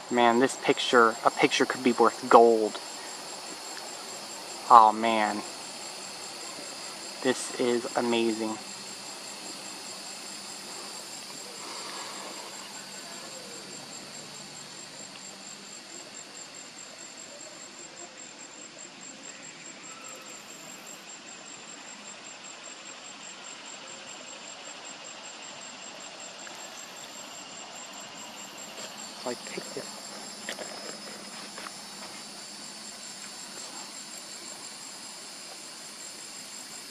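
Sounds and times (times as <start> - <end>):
insects trilling: 0.0 - 36.9
shrill insect drone: 0.0 - 36.9.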